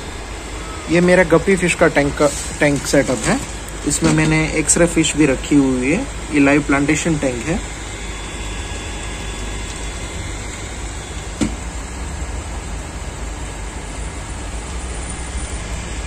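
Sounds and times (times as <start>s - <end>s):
small cooling fan running: 0.0s - 16.0s.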